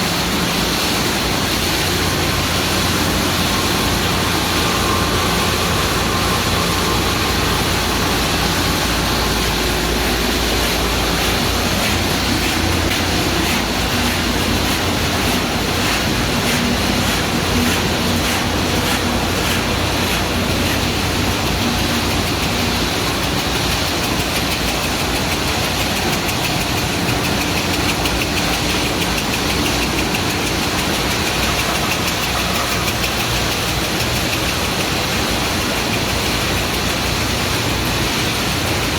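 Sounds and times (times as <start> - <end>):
machinery running with low hum: 0.0 - 38.9.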